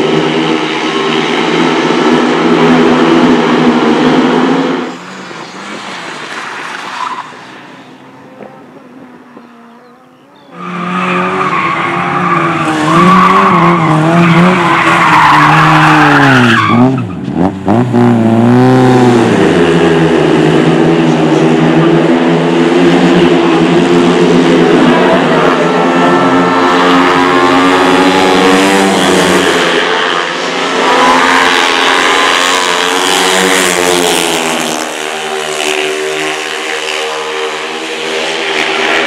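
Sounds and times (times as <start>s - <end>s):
car engine revving: 0.0s - 39.0s
motorcycle engines racing: 0.0s - 39.0s.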